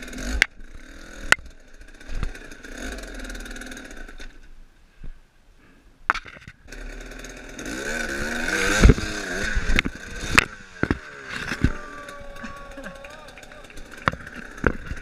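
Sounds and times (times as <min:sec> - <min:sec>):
dirt bike engine revving: 0:00.0 - 0:04.4, 0:06.6 - 0:15.0.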